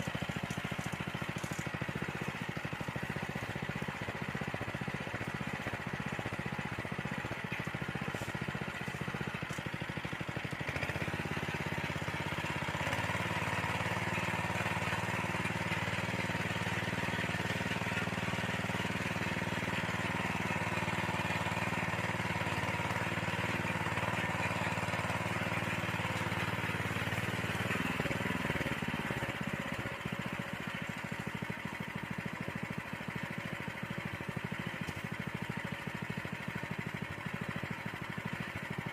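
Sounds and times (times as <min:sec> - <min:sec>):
tiller engine running: 0:00.0 - 0:38.9.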